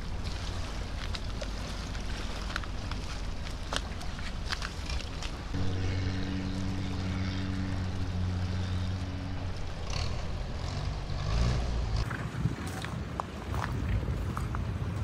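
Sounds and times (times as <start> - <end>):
engine rev with low rumble: 0.0 - 12.2
engine running low: 0.0 - 12.6.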